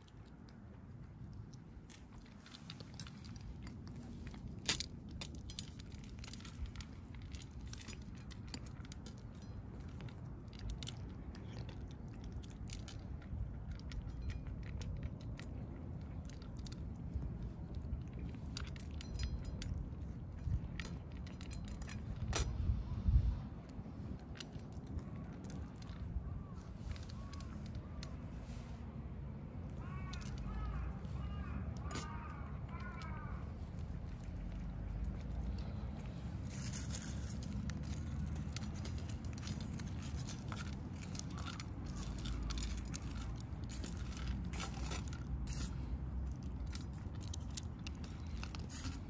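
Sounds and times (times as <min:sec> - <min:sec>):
cats crunching food: 0:00.0 - 0:49.0
steady low rumble: 0:00.0 - 0:49.0.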